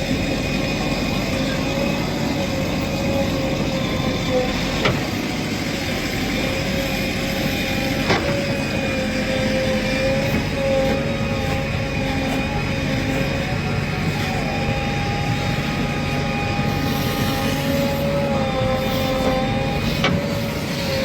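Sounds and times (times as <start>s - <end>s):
diesel engines running: 0.0s - 21.0s
steady whine: 0.0s - 21.0s.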